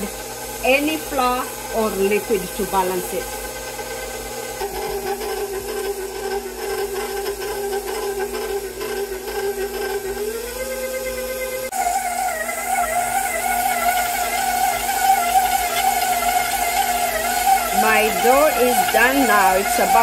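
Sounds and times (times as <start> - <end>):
stand mixer motor whining: 0.0 - 20.0.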